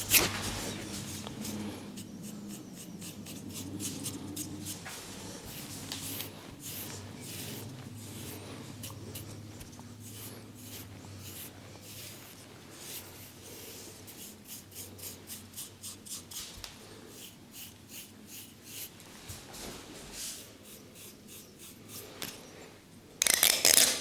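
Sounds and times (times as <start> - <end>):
rubbing and scratching over hair: 0.0 - 21.5.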